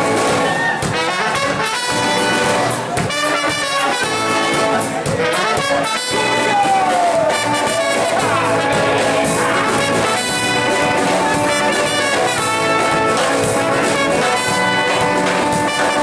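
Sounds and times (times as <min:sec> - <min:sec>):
live band playing: 0:00.0 - 0:16.0
trumpet: 0:00.0 - 0:16.0
saxophone: 0:00.3 - 0:16.0.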